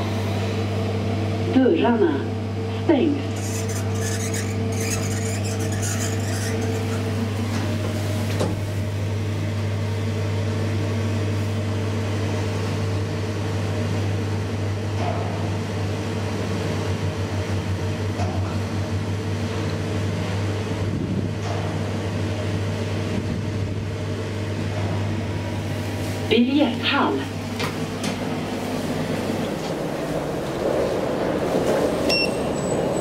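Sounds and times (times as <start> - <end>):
elevator running hum: 0.0 - 33.0.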